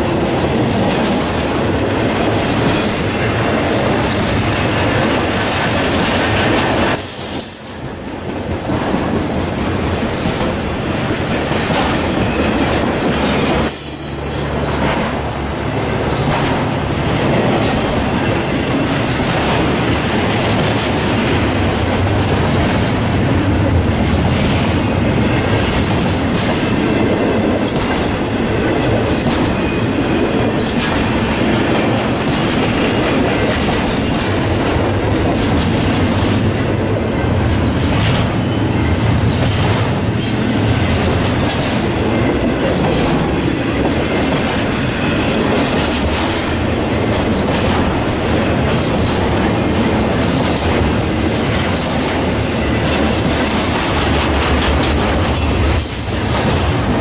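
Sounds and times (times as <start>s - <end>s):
freight train wheels rumbling on rail: 0.0s - 57.0s
train wheel clicks: 0.0s - 57.0s.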